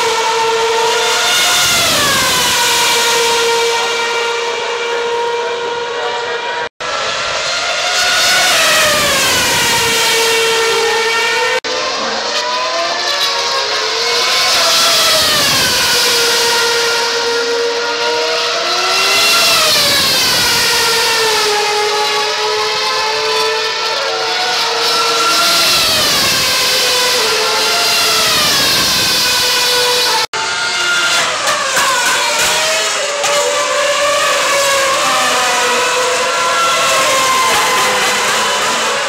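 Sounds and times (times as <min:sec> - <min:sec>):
racing car engines screaming: 0:00.0 - 0:39.0.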